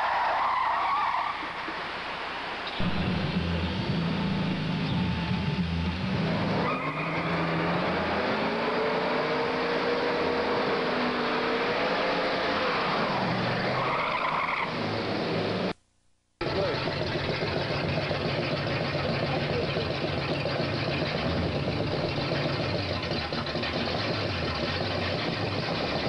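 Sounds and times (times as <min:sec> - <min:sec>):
tires squealing: 0:00.0 - 0:15.7, 0:16.4 - 0:26.0
car engine revving: 0:02.7 - 0:15.8, 0:16.4 - 0:26.0.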